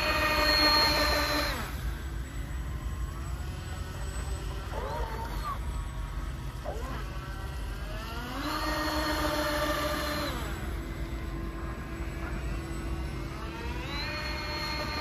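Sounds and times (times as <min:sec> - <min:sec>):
model boat motor whine: 0:00.0 - 0:15.0.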